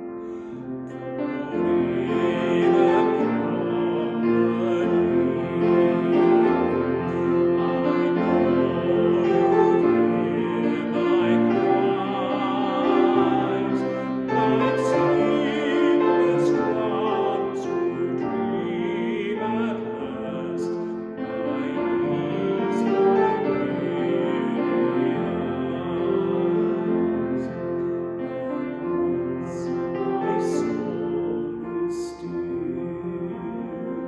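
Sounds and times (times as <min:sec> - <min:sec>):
person singing with vibrato: 0:00.0 - 0:34.0
piano accompaniment: 0:00.0 - 0:34.0.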